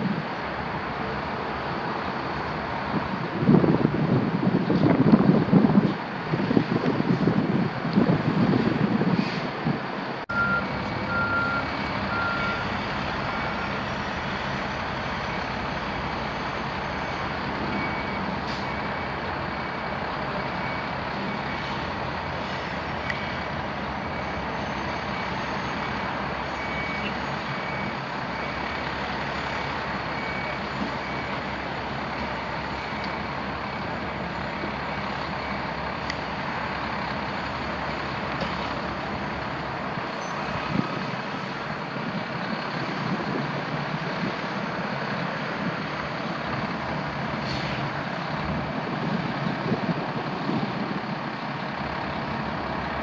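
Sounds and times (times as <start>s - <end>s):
fire truck engines idling: 0.0s - 53.0s
road traffic: 0.0s - 53.0s
truck reversing beeper: 10.2s - 53.0s.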